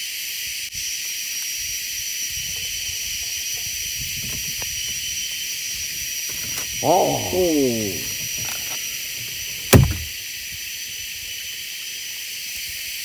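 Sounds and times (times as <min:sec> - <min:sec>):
insect chorus hiss: 0:00.0 - 0:13.0.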